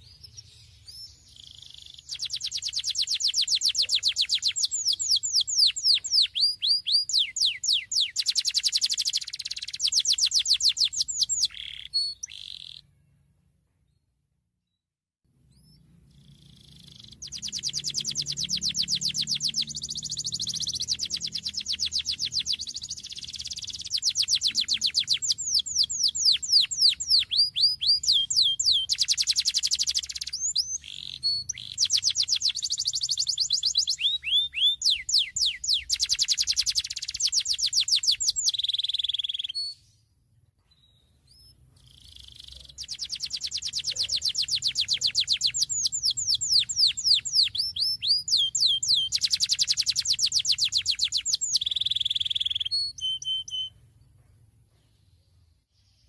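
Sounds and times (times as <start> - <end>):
canary singing trills: 0.0 - 13.1, 15.4 - 40.0, 40.8 - 53.9.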